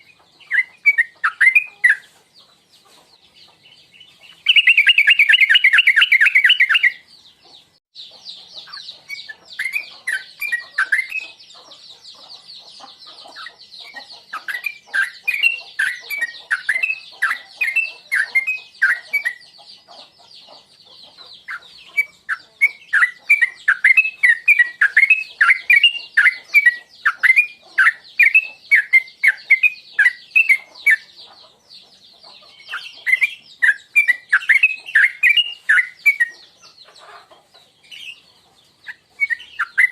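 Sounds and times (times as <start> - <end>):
bird trilling and chirping: 0.0 - 39.9.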